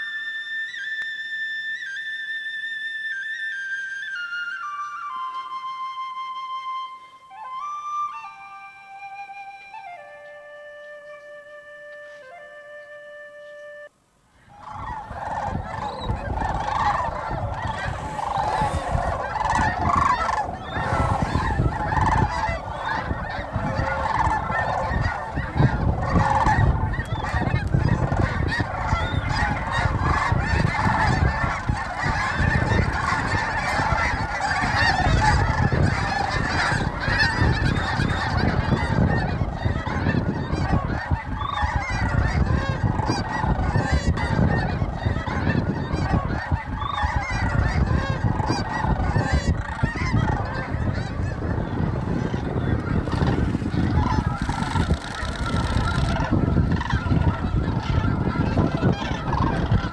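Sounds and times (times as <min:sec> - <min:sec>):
flock of cranes calling: 0:00.0 - 0:59.9.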